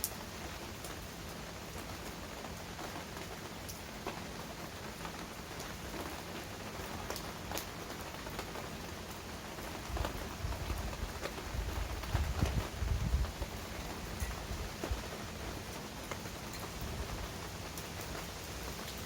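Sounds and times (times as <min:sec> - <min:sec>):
heavy rain on hard surfaces: 0:00.0 - 0:19.0.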